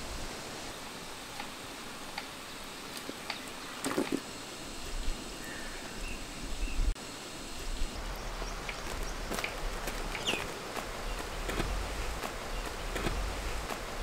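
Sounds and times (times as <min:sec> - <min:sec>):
fire crackling: 0:00.0 - 0:05.5, 0:06.9 - 0:14.0
pot simmering hiss: 0:00.0 - 0:14.0.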